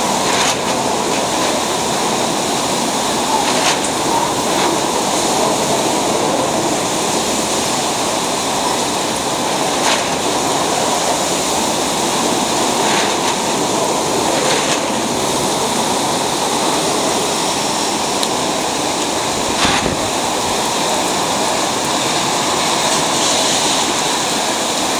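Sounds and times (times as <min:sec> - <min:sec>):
wind and rain rushing: 0:00.0 - 0:24.9.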